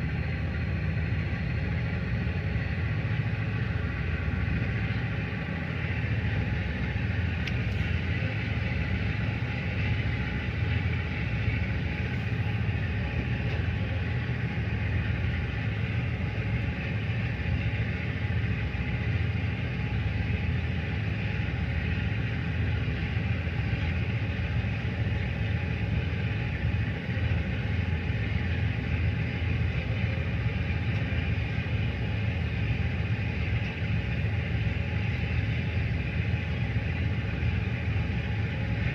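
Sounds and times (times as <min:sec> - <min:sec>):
diesel engine low rumble: 0:00.0 - 0:38.9.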